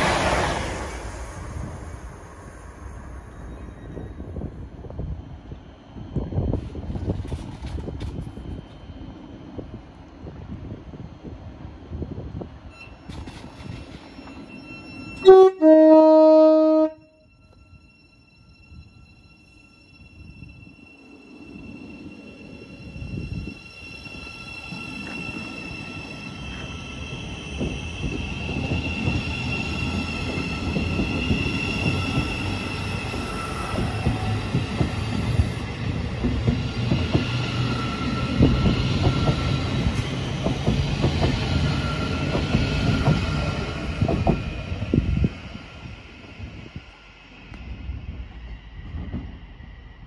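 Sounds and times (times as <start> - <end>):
electric train whine: 0.0 - 50.0.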